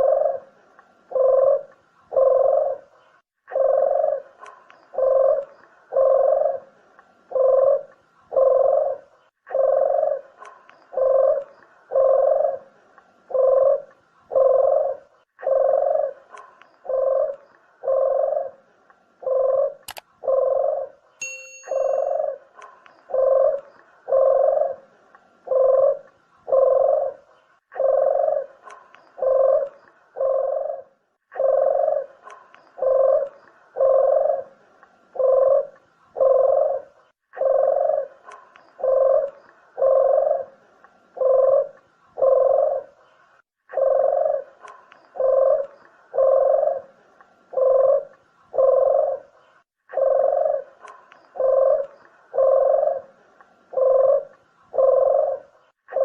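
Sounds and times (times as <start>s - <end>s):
dove cooing: 0.0s - 21.1s, 21.7s - 56.0s.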